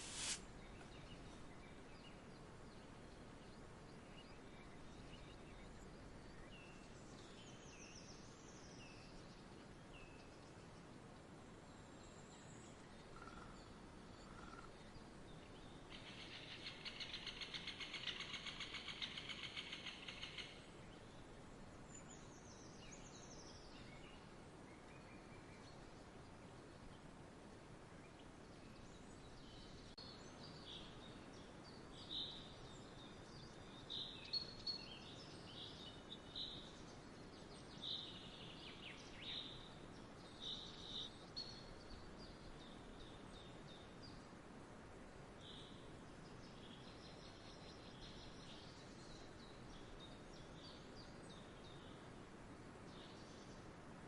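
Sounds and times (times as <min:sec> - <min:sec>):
low outdoor hiss: 0:00.0 - 0:54.0.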